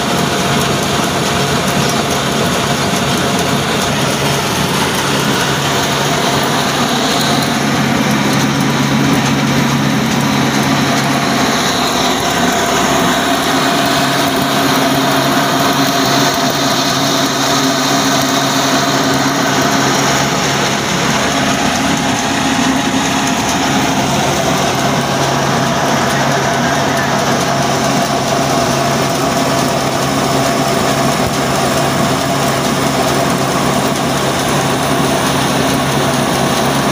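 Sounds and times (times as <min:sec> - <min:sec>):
diesel engine driving a flour mill: 0:00.0 - 0:36.9.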